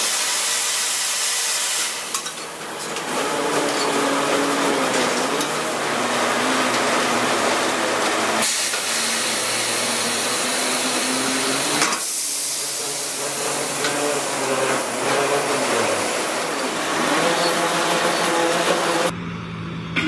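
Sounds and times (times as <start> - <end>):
log debarker machine running: 1.6 - 20.0.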